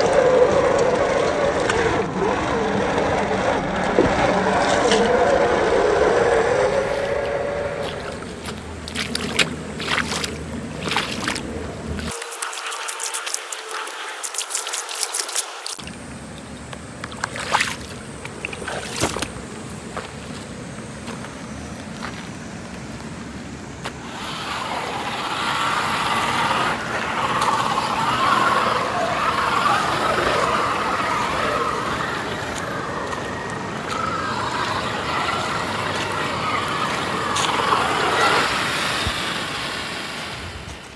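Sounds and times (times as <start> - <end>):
tyres splashing through mud: 0.0 - 16.2, 17.0 - 22.2, 23.8 - 40.9.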